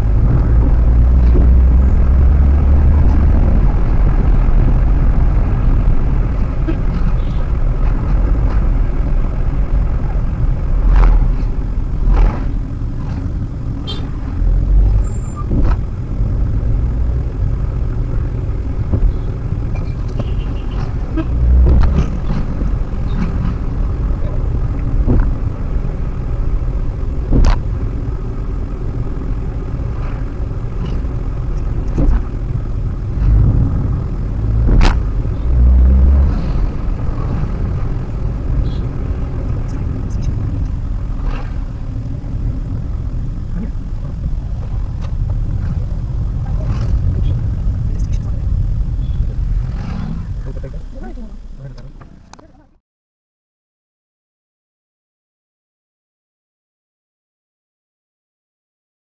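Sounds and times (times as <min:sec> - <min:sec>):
car thumping over bumps: 0:00.0 - 0:50.9
car cabin road rumble: 0:00.0 - 0:52.8.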